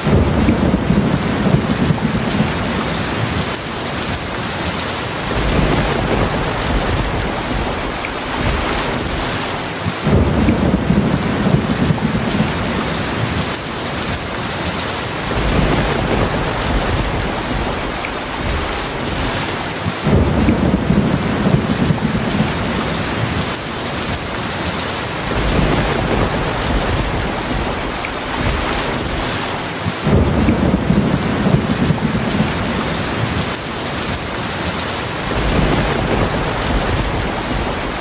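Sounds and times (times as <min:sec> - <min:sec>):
low rolls of thunder: 0:00.0 - 0:14.6, 0:15.2 - 0:38.0
heavy rain falling: 0:00.0 - 0:38.0.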